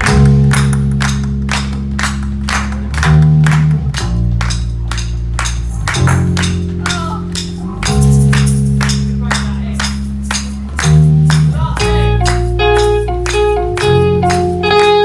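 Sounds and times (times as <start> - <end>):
drum kit beat: 0.0 - 15.0
electric bass: 0.0 - 15.0
electric guitars: 0.0 - 15.0.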